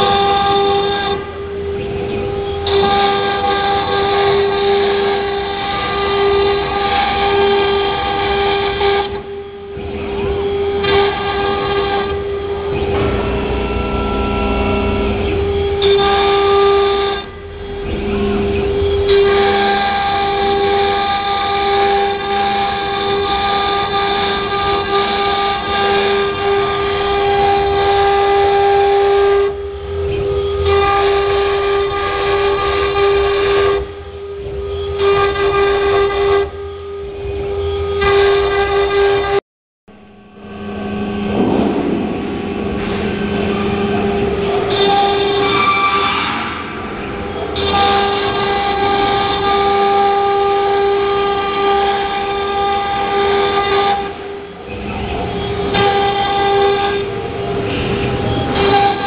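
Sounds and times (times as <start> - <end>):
router spindle whining: 0.0 - 39.4, 40.2 - 59.0.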